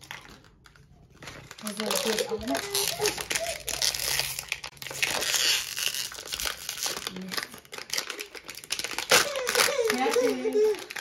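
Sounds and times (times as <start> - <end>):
packaging crinkling and rustling: 0.0 - 11.0
packaging tearing: 0.0 - 11.0.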